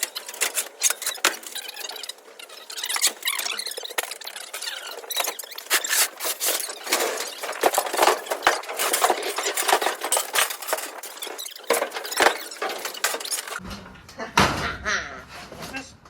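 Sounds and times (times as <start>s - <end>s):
items clattering: 0.0s - 16.0s
items scraping: 0.0s - 16.0s.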